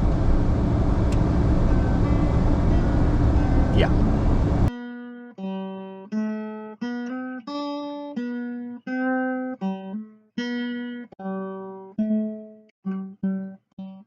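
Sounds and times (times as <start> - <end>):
plucked guitar melody: 1.6 - 14.0.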